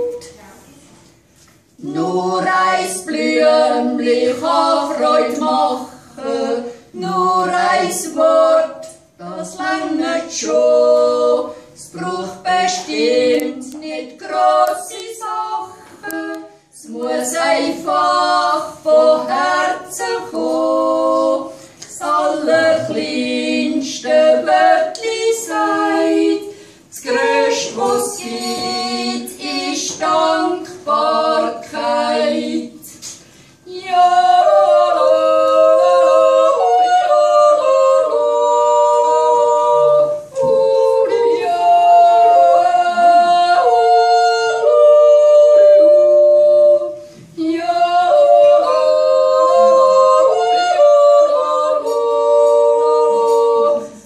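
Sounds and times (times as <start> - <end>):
two women singing a cappella: 0.0 - 54.0.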